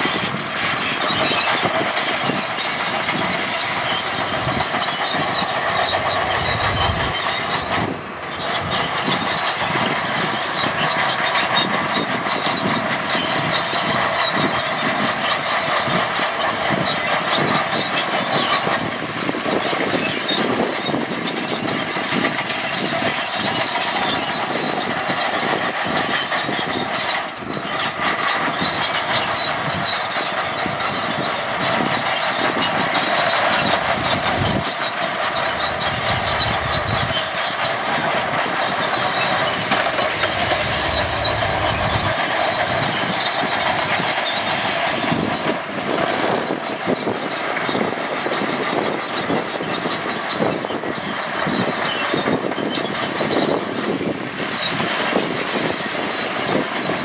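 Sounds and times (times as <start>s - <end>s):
dense rattling clatter: 0.0s - 50.9s
heavy machinery engine: 0.0s - 57.0s.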